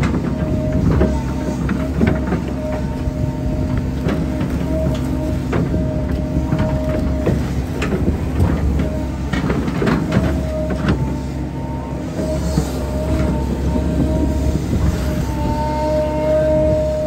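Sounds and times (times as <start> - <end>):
diesel engine rumble: 0.0 - 17.0
hydraulic whine: 0.0 - 17.0.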